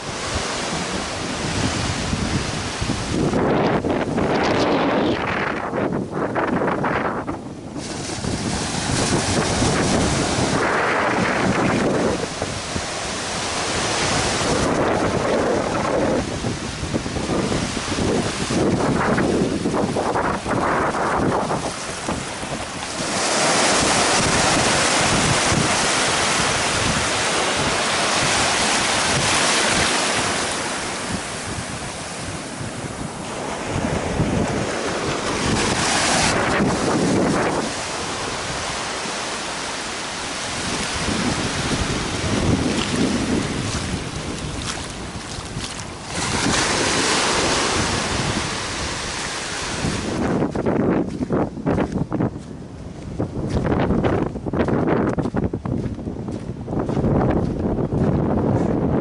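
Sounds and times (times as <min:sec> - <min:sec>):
small waves washing on beach: 0:00.0 - 0:59.0
wind buffeting microphone: 0:00.0 - 0:59.0.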